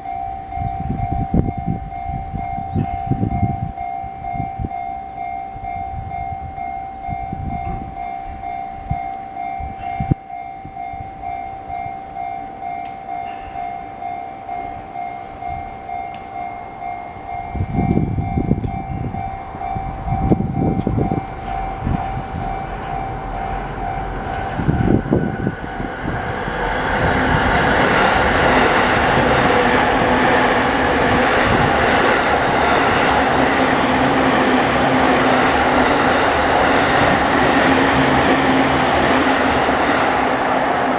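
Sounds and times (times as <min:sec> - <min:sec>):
level-crossing bell dinging: 0:00.0 - 0:40.9
train passing: 0:00.0 - 0:40.9.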